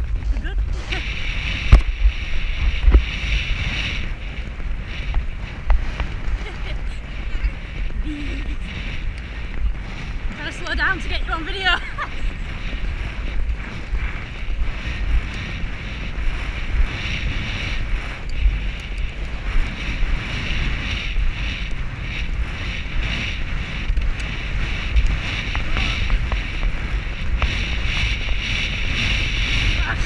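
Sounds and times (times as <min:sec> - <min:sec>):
heavy wind buffeting microphone: 0:00.0 - 0:30.0.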